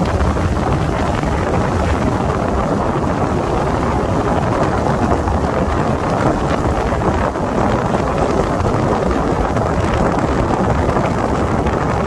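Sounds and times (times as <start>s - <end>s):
vehicle on wet road: 0.0s - 12.0s
wind buffeting microphone: 0.0s - 12.0s.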